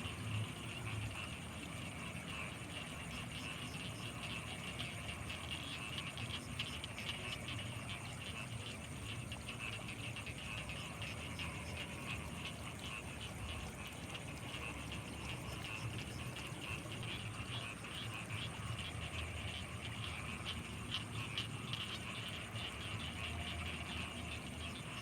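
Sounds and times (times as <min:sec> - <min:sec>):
frogs and insects trilling: 0:00.0 - 0:25.0.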